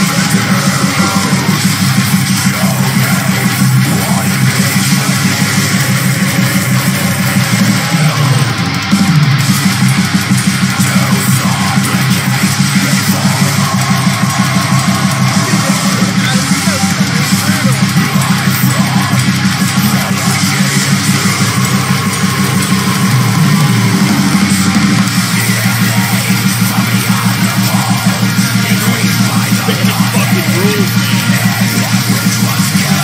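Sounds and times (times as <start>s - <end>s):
distorted electric guitars: 0.0s - 33.0s
fast drum beat: 0.0s - 33.0s.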